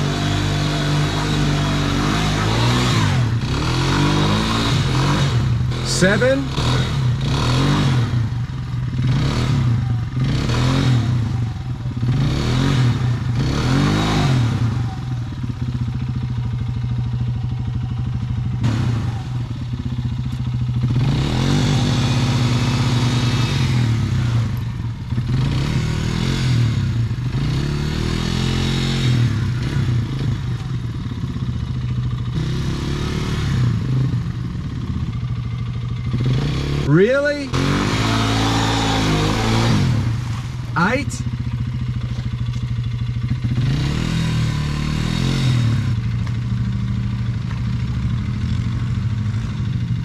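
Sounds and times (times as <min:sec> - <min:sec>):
motorbike engine revving: 0:00.0 - 0:50.0.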